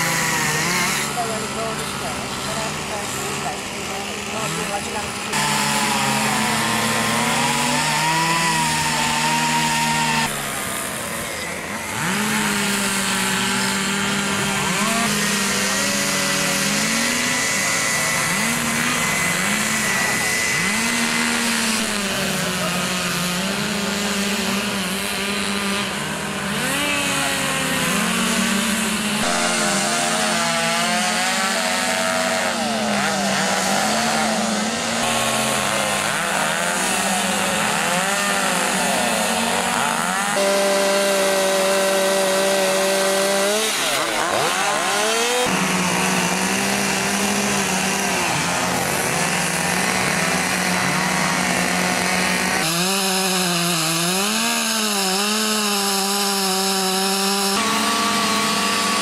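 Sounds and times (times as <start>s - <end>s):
chainsaws cutting wood: 0.0s - 59.0s.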